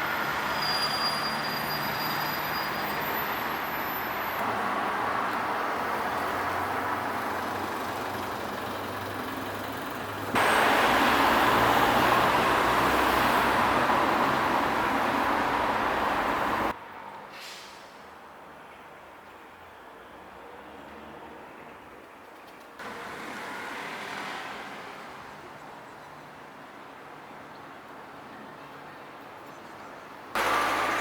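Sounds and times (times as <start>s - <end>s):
road traffic noise: 0.0s - 22.1s, 22.7s - 31.0s.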